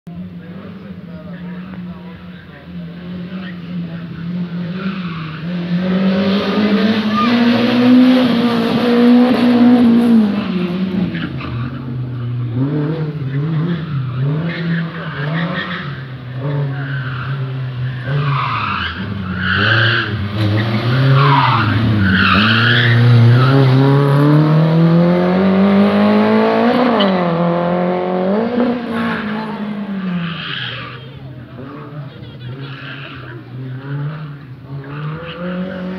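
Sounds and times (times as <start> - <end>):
race car engine revving: 0.3 - 35.9.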